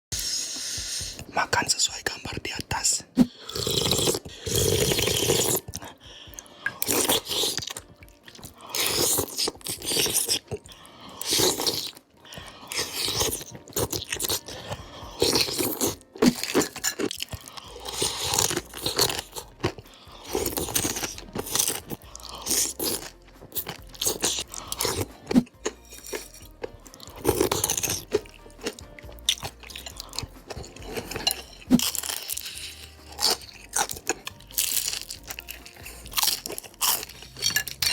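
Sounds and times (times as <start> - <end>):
crunching and chewing crisp food: 2.7 - 37.9.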